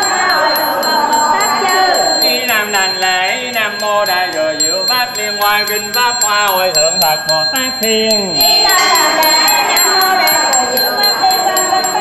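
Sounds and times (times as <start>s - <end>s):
person chanting: 0.0s - 12.0s.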